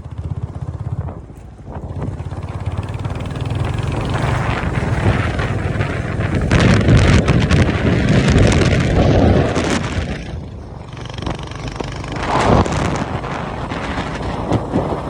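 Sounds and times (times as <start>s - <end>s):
motorcycle riding at speed: 0.0s - 15.0s
wind buffeting microphone: 0.0s - 15.0s.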